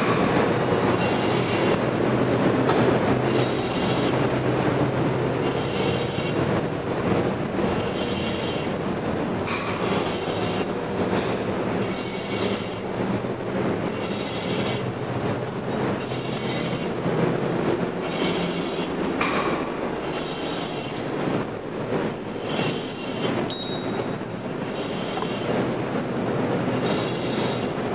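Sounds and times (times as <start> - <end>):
machinery noise: 0.0 - 27.9.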